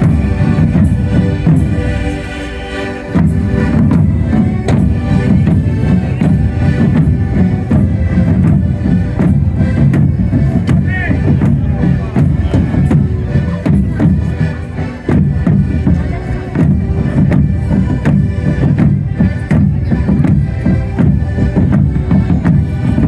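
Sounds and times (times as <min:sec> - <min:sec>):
accordion melody: 0:00.0 - 0:23.0
crowd chatter: 0:00.0 - 0:23.0
side drums beaten: 0:00.0 - 0:23.0.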